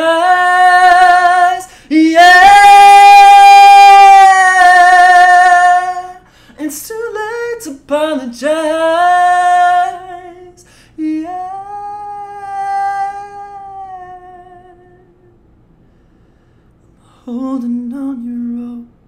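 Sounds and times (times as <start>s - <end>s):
man singing without words: 0.0s - 15.4s, 17.0s - 19.0s.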